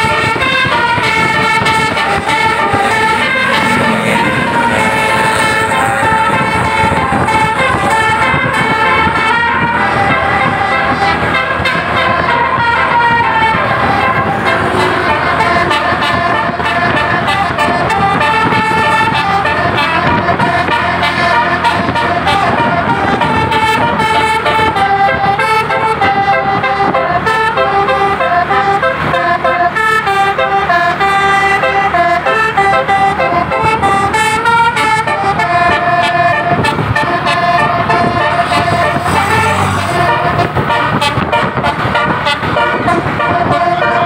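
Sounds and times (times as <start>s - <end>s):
musical air horn melody: 0.0s - 44.0s.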